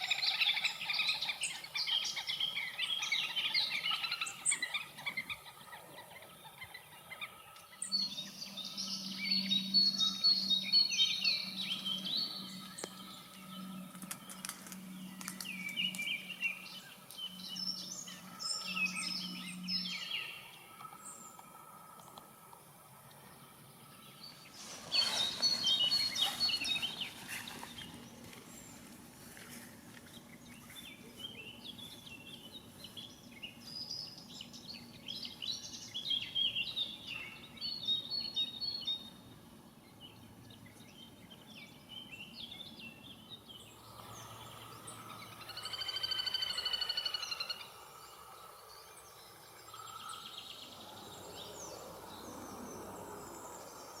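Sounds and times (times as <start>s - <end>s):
rapidly trilling birdsong: 0.0s - 22.4s, 23.0s - 54.0s
songbirds chirping and warbling: 0.0s - 54.0s.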